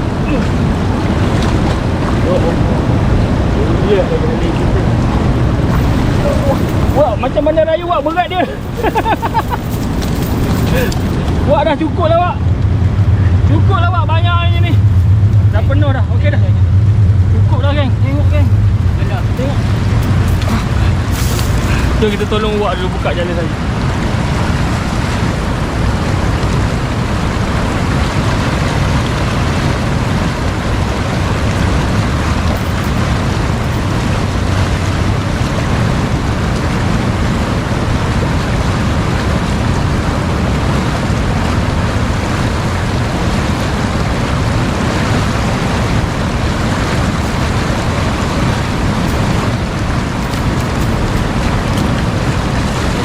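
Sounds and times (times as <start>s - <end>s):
fast-flowing water rushing: 0.0s - 53.0s.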